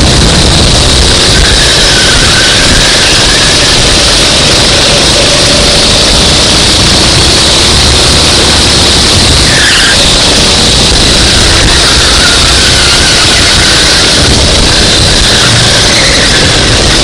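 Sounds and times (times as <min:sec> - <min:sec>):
kart engine running: 0:00.0 - 0:17.0
short squeal: 0:01.0 - 0:17.0.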